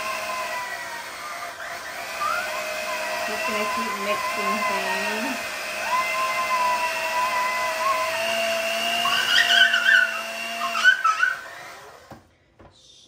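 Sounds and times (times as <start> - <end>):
electric mixer motor whine: 0.0 - 12.3.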